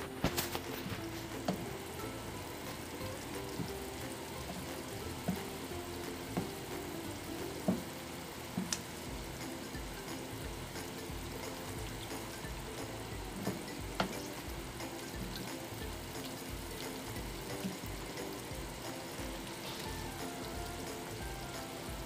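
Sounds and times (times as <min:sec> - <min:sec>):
sauce sizzling in a pan: 0:00.1 - 0:22.0.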